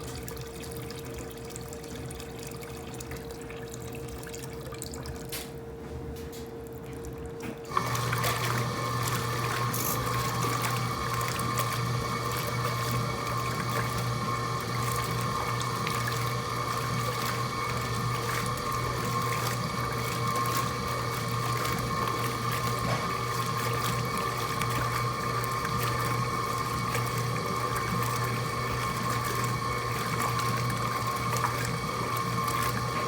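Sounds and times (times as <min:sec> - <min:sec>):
water churning in tub: 0:00.0 - 0:05.3, 0:06.9 - 0:33.0
washing machine motor humming: 0:00.0 - 0:33.0.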